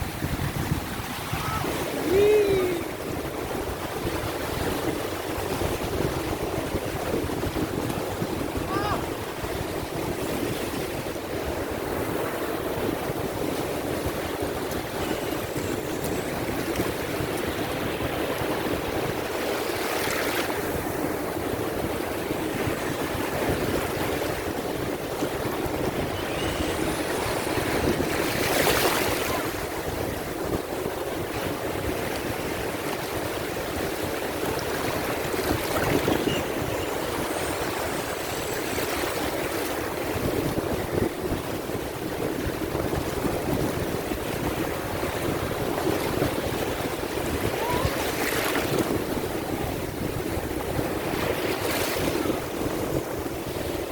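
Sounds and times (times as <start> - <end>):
sea waves washing in: 0.0 - 53.9
wind on microphone: 0.0 - 53.9.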